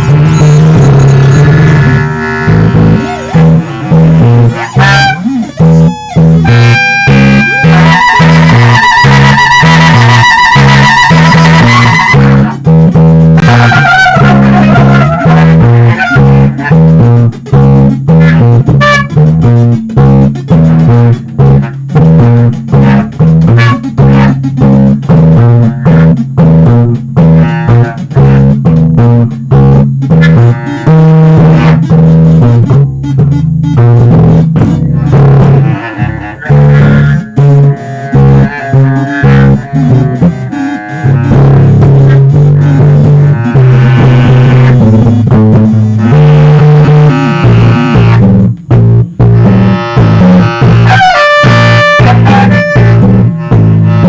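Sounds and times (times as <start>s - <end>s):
electric bass line: 0.0s - 54.0s
plucked guitar: 0.0s - 54.0s.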